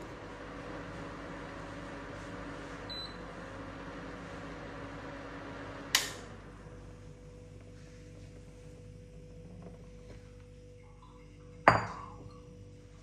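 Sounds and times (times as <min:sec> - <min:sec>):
cooktop fan humming: 0:00.0 - 0:13.0.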